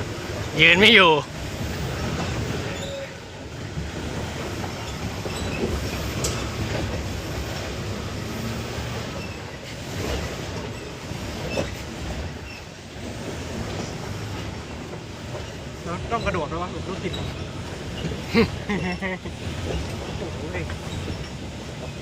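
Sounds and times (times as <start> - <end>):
truck engine rumbling under load: 0.0 - 22.0
truck rattling: 0.0 - 22.0.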